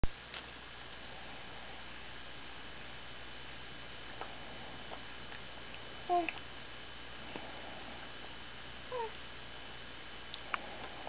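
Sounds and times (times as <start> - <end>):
low electrical hum: 0.0 - 11.0
steady hiss: 0.0 - 11.0.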